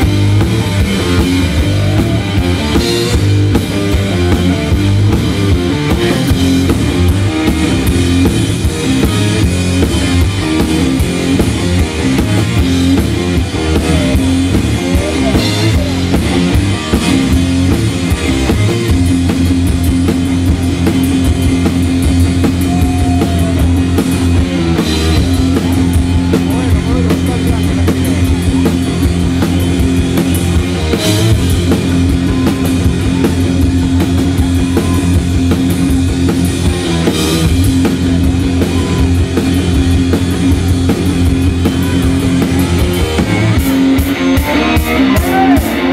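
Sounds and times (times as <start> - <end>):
drum kit beat: 0.0 - 45.9
electric guitar: 0.0 - 45.9.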